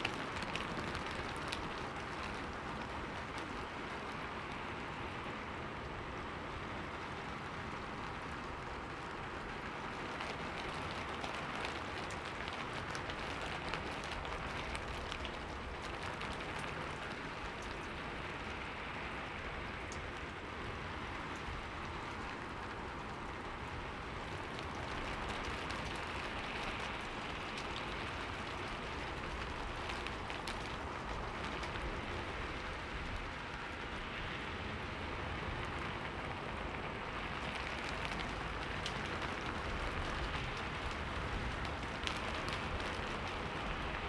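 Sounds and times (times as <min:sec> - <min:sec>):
rain on a window pane: 0:00.0 - 0:44.0.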